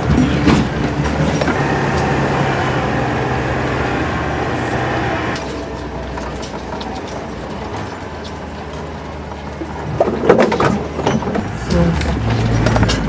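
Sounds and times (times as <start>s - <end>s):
vehicle engine running: 0.0s - 10.3s, 11.2s - 13.0s.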